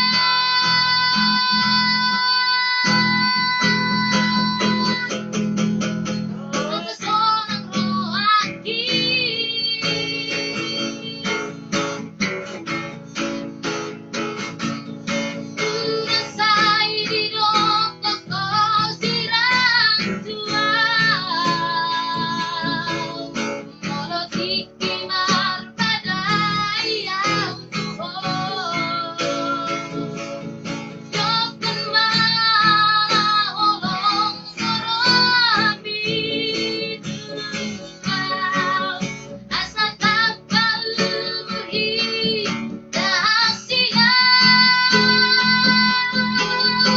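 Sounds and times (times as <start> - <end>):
high singing voice with vibrato: 0.0 - 5.3, 6.3 - 11.5, 15.4 - 30.3, 31.0 - 46.9
strummed acoustic guitar: 0.0 - 46.9.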